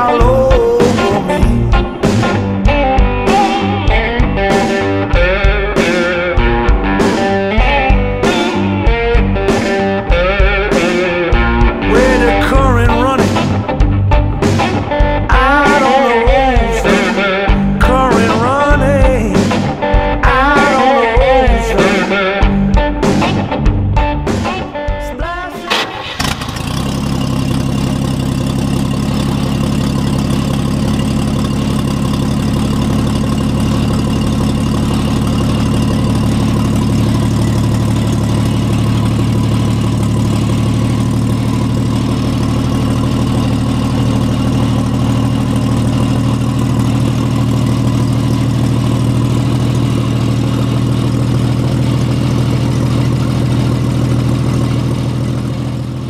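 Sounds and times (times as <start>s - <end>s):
truck engine idling: 0.0s - 24.6s, 25.7s - 56.0s.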